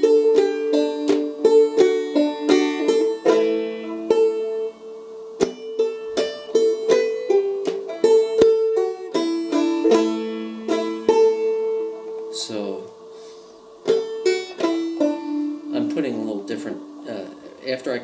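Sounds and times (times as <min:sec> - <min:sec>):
banjo plucking and strumming: 0:00.0 - 0:18.0.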